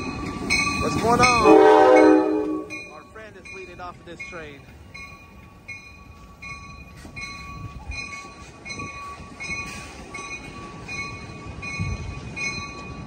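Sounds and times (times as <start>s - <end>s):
bell ringing: 0.0s - 13.0s
train rumbling slowly: 0.0s - 13.0s.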